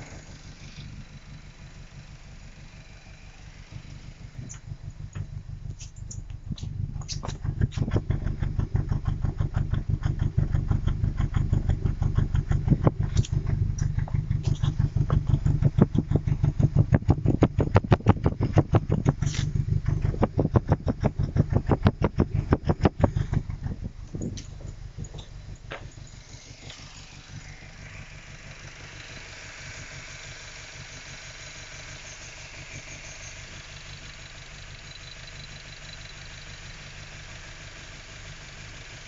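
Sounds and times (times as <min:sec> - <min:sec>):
car engine idling roughly: 0:00.0 - 0:39.0.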